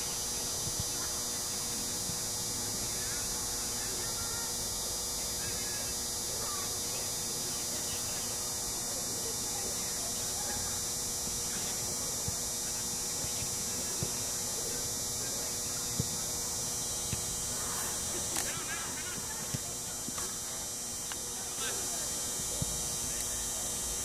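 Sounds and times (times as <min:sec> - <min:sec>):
faint distant voices: 0:00.0 - 0:24.0.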